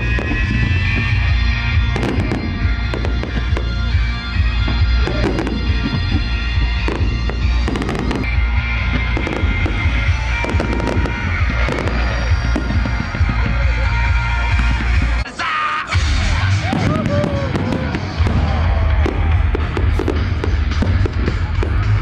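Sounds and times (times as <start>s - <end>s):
fireworks bangs: 0.0s - 15.3s, 15.9s - 22.0s
music playing: 0.0s - 22.0s.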